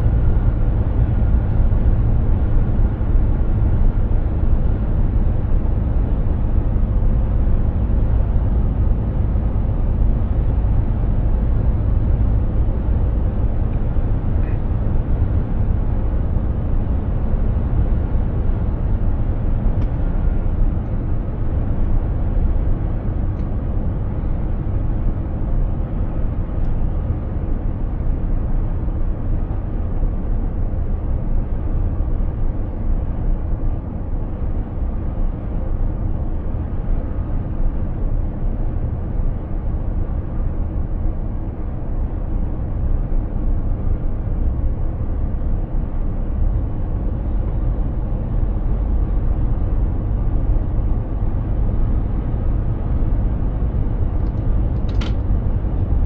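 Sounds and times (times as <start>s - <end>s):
road noise: 0.0s - 56.0s
truck engine rumble: 0.0s - 56.0s.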